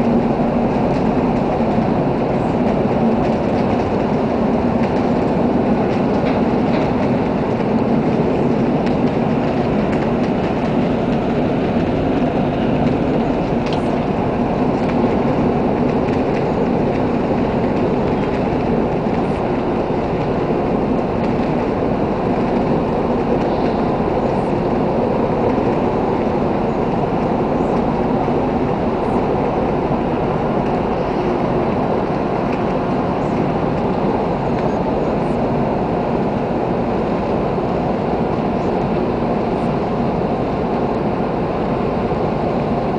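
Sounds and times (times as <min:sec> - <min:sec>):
ship engines rumbling: 0:00.0 - 0:42.9.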